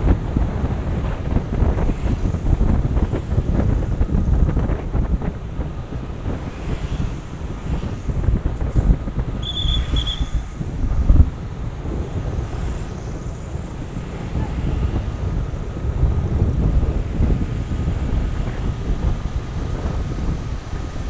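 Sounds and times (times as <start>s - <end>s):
wind buffeting the microphone: 0.0s - 21.0s.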